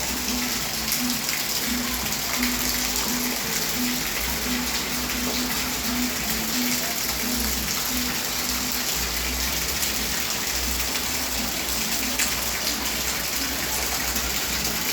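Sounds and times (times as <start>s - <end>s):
heavy rain pouring: 0.0s - 14.9s.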